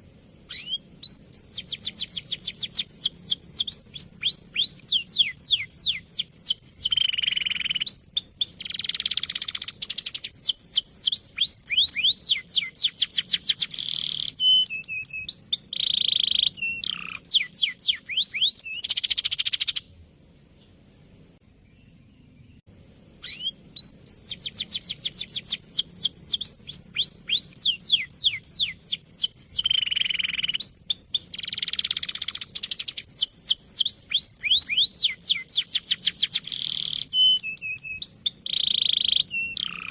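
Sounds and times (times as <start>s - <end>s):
canary singing trills: 0.0s - 20.8s, 21.5s - 39.9s.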